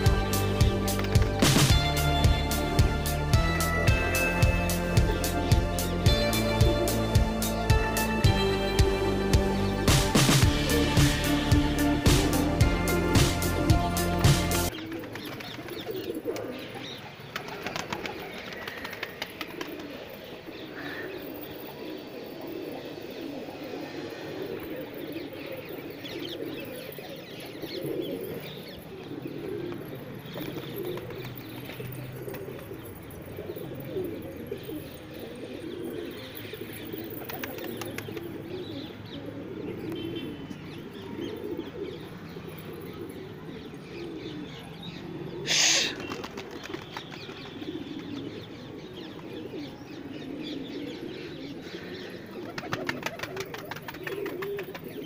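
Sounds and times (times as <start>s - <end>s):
pigeons cooing: 0.0s - 3.1s, 3.8s - 55.0s.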